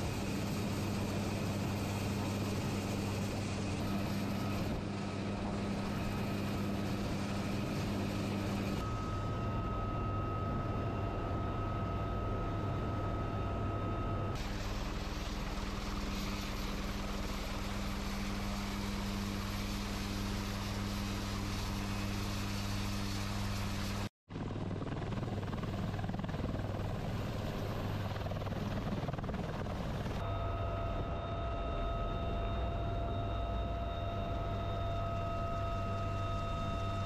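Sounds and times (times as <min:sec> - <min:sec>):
helicopter cabin whining tones: 0:00.0 - 0:24.0, 0:24.8 - 0:37.0
helicopter rotor and engines: 0:00.0 - 0:37.0.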